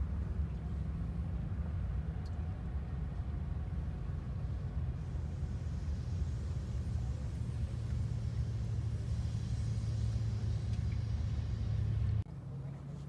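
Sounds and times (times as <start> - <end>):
low steady rumble with hum: 0.0 - 13.0.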